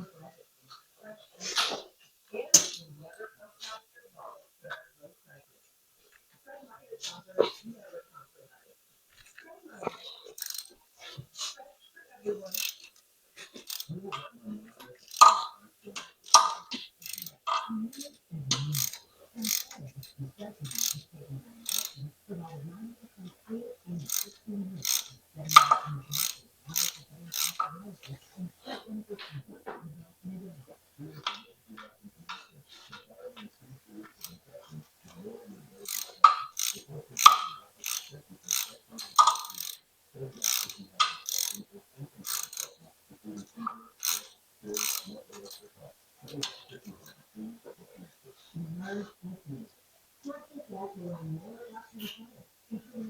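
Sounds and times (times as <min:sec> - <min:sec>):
hand tools clicking and scraping: 0:01.4 - 0:03.8, 0:09.1 - 0:49.2.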